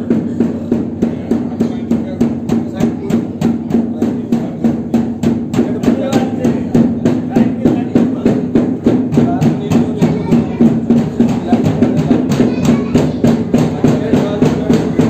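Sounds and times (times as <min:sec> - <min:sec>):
barrel drum beaten with stick: 0:00.0 - 0:15.0.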